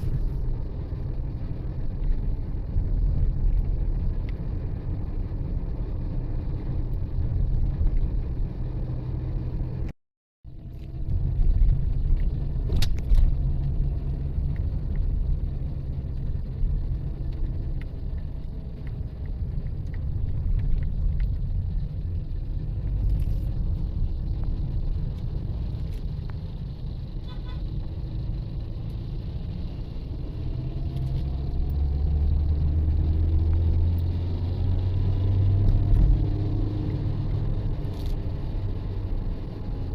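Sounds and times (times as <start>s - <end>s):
road vehicle engine and road noise: 0.0s - 39.9s.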